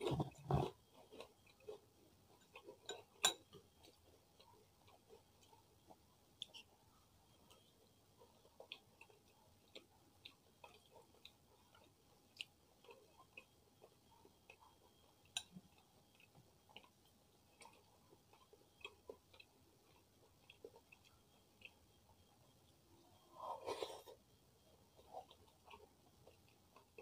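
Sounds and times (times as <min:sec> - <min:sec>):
chewing and mouth clicks: 0:00.0 - 0:22.8, 0:23.7 - 0:27.0.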